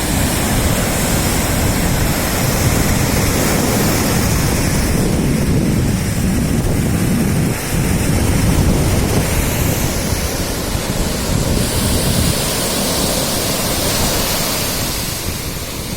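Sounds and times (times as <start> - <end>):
sea waves washing onto beach: 0.0 - 15.9
wind buffeting microphone: 0.0 - 15.9.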